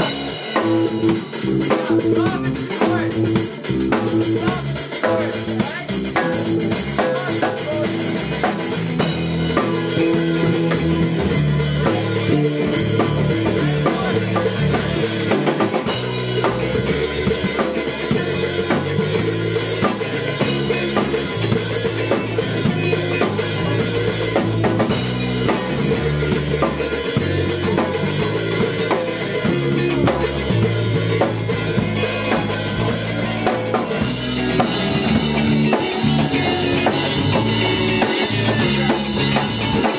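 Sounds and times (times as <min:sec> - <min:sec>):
drum kit beat: 0:00.0 - 0:39.9
small band playing live: 0:00.0 - 0:39.9.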